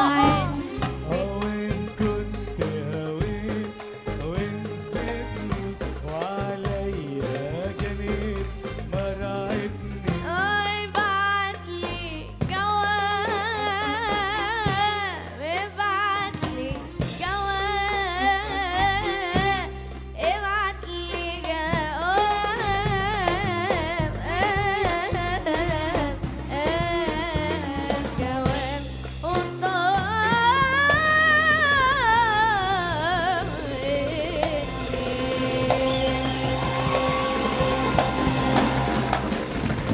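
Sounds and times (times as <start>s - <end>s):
ornamented sung melody: 0.0s - 28.8s, 29.6s - 39.2s
percussion: 0.0s - 39.9s
steady bass: 0.0s - 39.9s.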